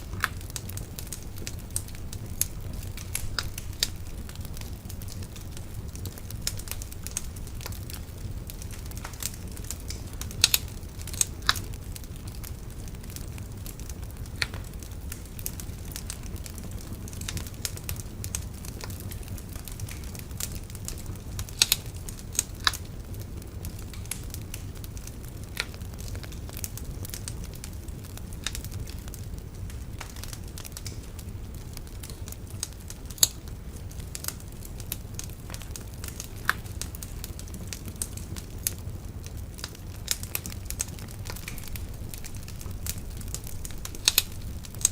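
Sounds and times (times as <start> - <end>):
bonfire crackling and popping: 0.0 - 44.9.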